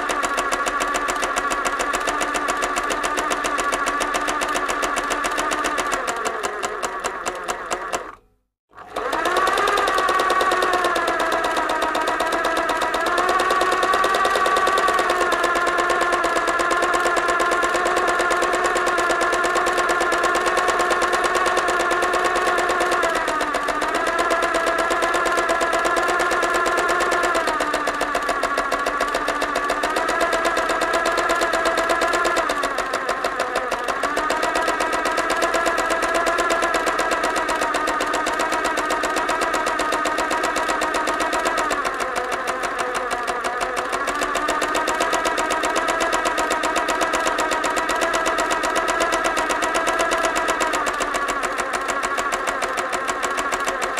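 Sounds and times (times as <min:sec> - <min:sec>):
sewing machine running fast: 0:00.0 - 0:53.9.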